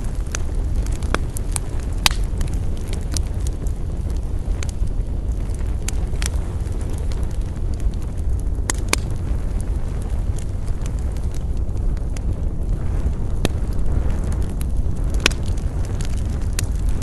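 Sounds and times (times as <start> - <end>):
low fire rumble: 0.0 - 17.0
wood crackling and popping: 0.0 - 17.0.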